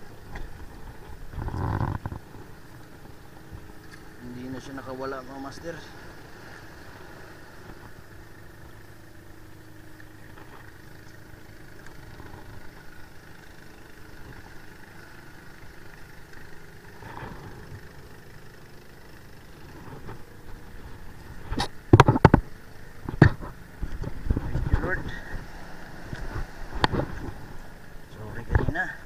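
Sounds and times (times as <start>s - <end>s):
low engine-like hum: 0.0s - 29.0s.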